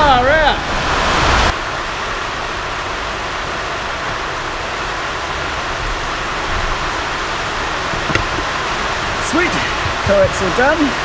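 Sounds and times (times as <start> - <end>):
steady hissing rush: 0.0 - 11.0.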